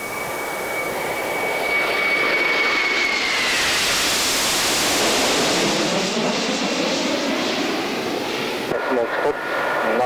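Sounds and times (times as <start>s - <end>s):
jets passing overhead: 0.0s - 10.0s.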